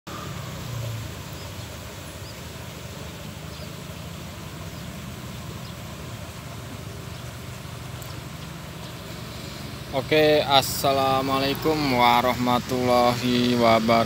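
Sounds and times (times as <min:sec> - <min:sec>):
low engine hum of traffic: 0:00.1 - 0:14.0.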